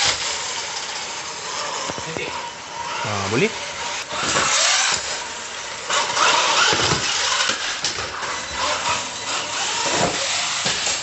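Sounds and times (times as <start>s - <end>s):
electric toy truck motor whine: 0.0s - 11.0s.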